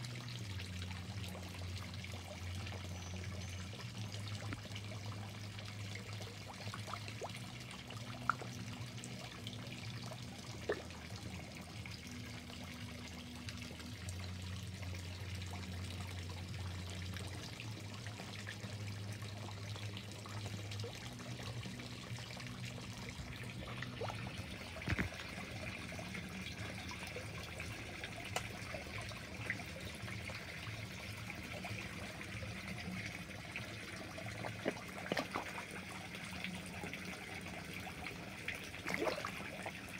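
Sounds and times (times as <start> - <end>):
low hum: 0.0 - 39.4
water trickling into pond: 0.0 - 39.9.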